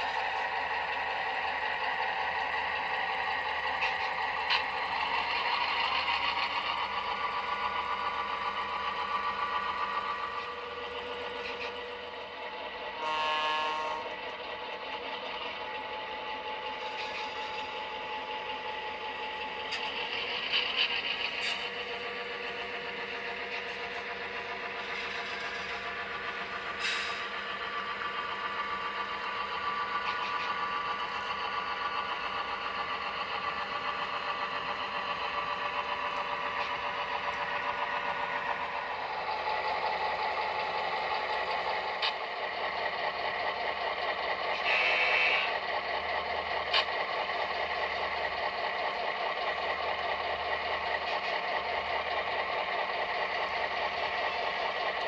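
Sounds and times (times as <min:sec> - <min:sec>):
model locomotive engine drone: 0:00.0 - 0:55.0.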